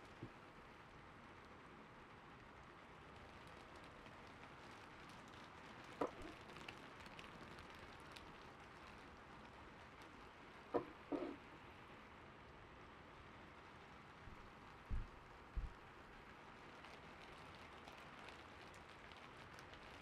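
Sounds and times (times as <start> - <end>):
soft rain hiss: 0.0 - 20.0.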